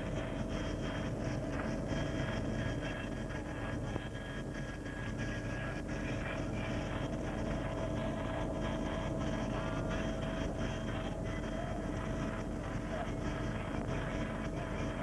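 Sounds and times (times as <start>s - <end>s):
helicopter turbine and rotor rumble: 0.0s - 15.0s.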